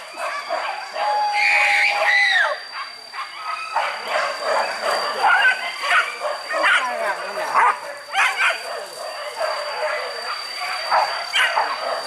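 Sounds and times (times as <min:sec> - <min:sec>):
dog howling call: 0:00.0 - 0:12.0
dogs yelping and barking: 0:00.0 - 0:12.0.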